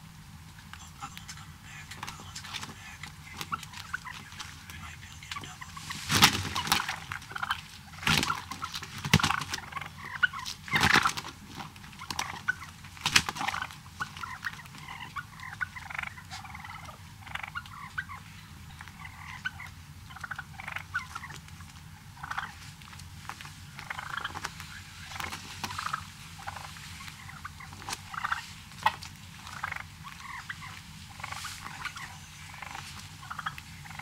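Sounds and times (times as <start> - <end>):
turkeys gobbling: 0.0 - 34.0
soft turkey calls: 0.3 - 34.0.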